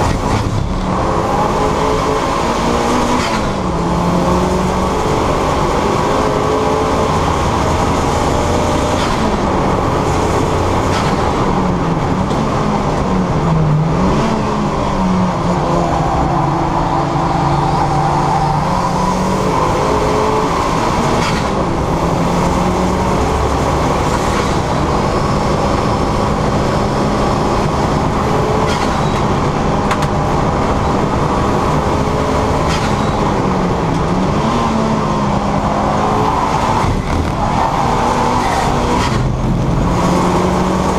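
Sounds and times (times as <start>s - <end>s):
car engine under hard driving: 0.0s - 40.9s
road and wind noise: 0.0s - 40.9s.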